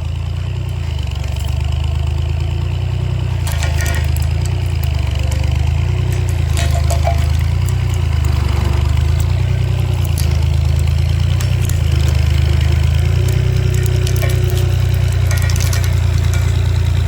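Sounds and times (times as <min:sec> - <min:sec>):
engine low hum: 0:00.0 - 0:17.0.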